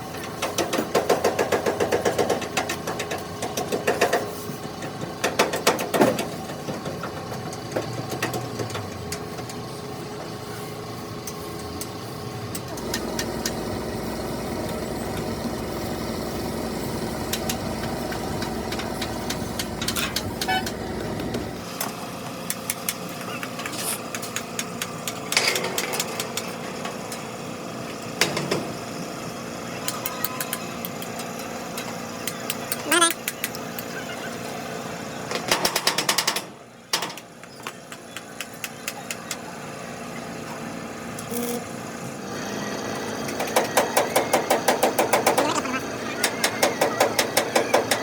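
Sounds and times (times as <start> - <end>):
steady engine hum: 0.0 - 48.0.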